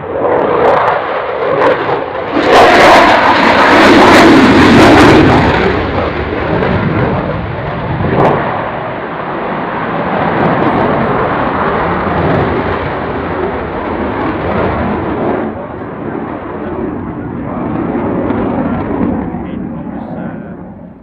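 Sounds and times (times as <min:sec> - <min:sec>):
jet engines taking off: 0:00.0 - 0:21.0.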